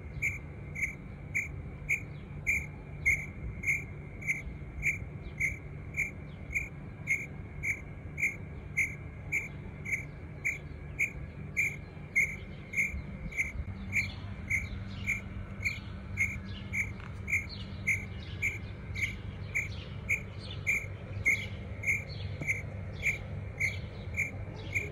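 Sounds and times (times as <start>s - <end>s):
insect chirping: 0.0s - 24.9s.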